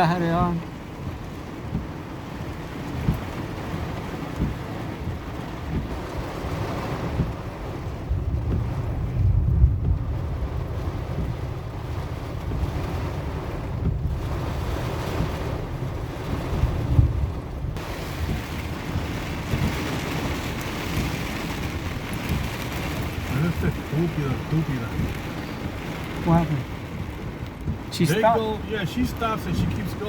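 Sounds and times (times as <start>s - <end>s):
wind and road noise in car: 0.0s - 30.0s.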